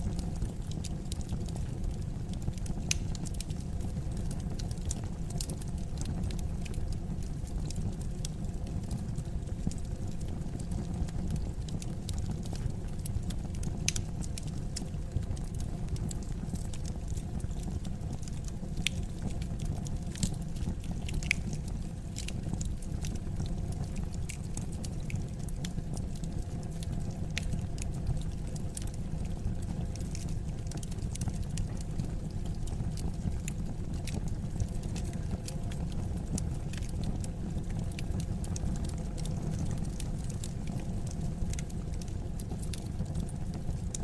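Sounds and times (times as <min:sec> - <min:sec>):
fireplace flames rumbling: 0:00.0 - 0:44.0
wood fire crackling and popping: 0:00.0 - 0:44.0.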